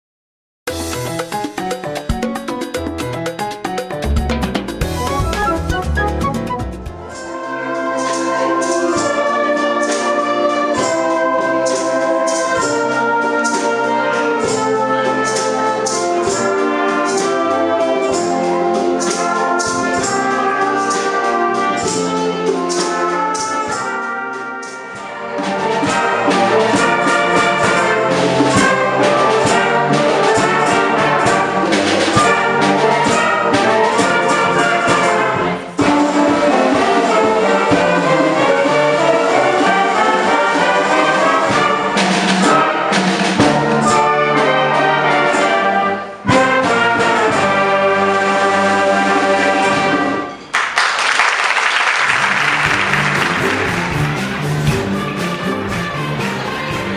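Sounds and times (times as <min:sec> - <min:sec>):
concert band with brass: 0:00.7 - 0:56.9.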